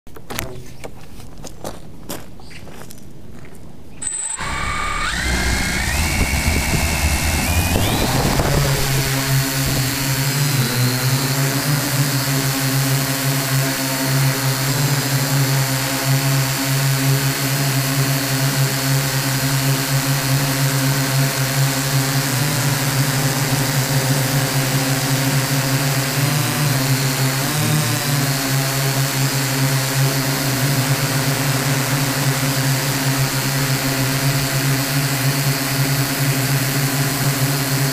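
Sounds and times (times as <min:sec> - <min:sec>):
electric motors and propellers humming: 0:04.0 - 0:37.9.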